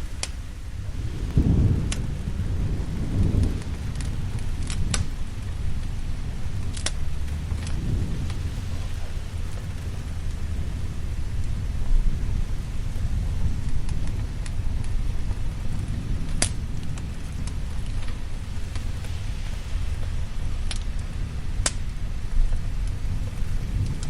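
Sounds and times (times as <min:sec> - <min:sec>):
fire crackling and popping: 0:00.0 - 0:24.0
steady rain: 0:00.0 - 0:24.0
thunder rumbling: 0:00.0 - 0:24.0.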